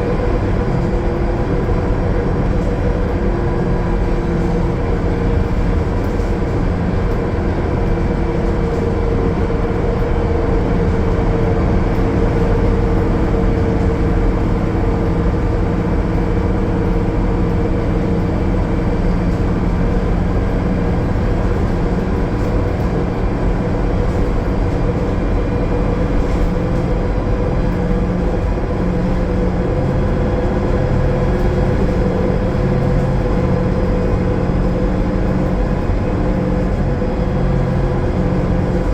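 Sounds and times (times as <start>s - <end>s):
bus diesel engine cruising: 0.0s - 38.9s
road and driveline noise: 0.0s - 38.9s.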